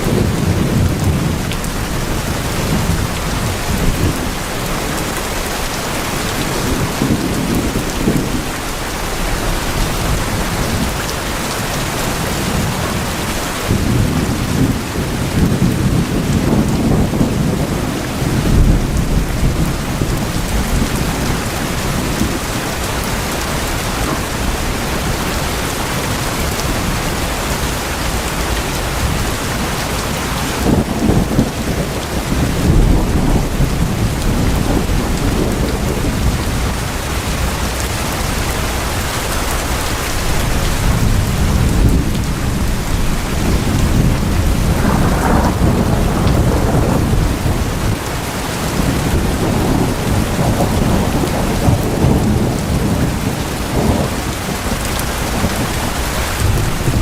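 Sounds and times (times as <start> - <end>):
heavy rain on tin roofs: 0.0 - 57.0
low rolling thunder: 0.0 - 57.0.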